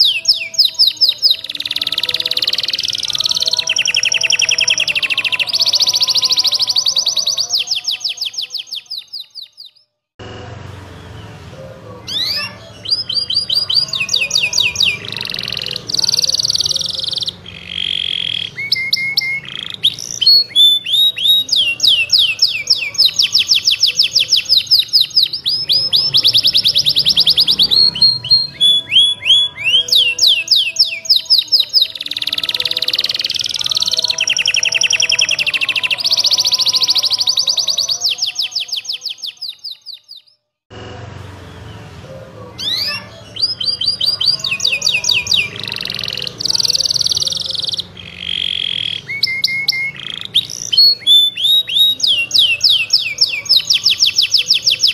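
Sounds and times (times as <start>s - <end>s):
canary singing trills: 0.0s - 10.0s, 11.0s - 40.5s, 41.3s - 54.9s.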